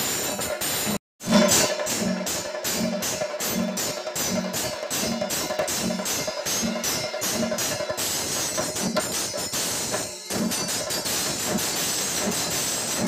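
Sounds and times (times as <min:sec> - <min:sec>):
brass hand cymbals clashing: 0:00.0 - 0:13.0.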